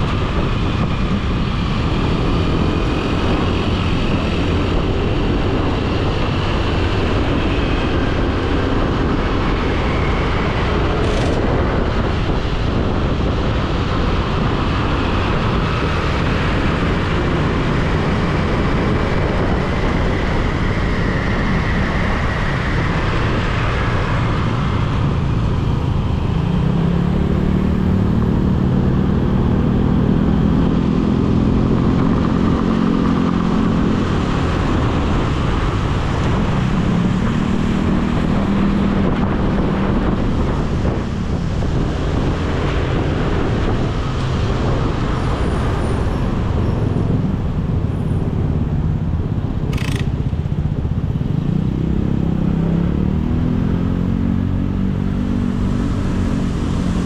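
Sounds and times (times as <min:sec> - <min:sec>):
engine hum: 0:00.0 - 0:57.0
road traffic noise: 0:00.0 - 0:57.0.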